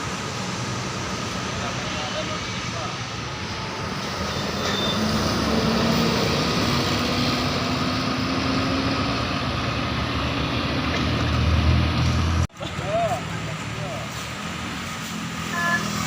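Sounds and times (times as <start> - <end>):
bus engine passing: 0.0 - 16.0
road noise: 0.0 - 16.0.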